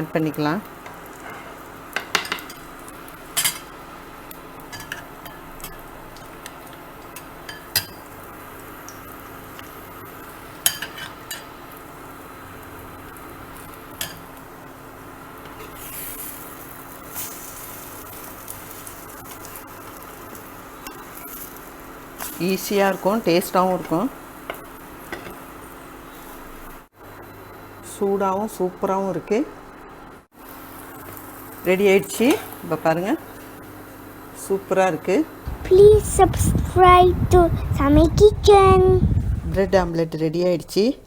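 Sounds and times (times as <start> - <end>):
food sizzling: 0.0 - 26.9, 30.4 - 34.3, 35.4 - 40.0.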